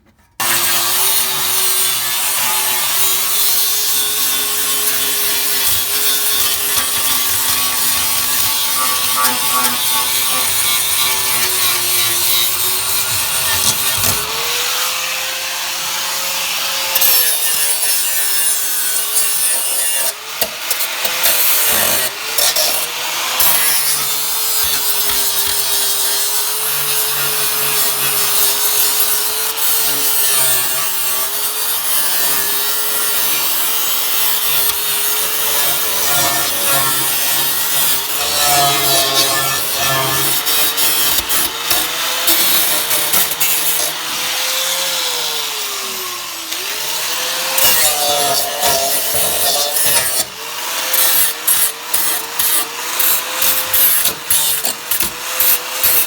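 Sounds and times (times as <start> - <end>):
power grinder on sheet steel: 0.2 - 56.0.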